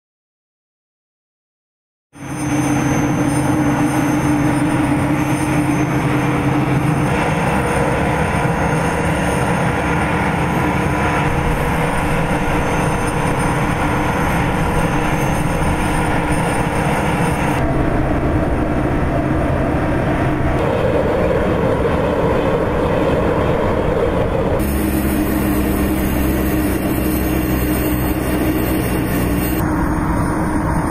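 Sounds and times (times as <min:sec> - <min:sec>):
high whine: 0:02.2 - 0:30.9
turboprop engine and propeller noise: 0:02.2 - 0:30.9.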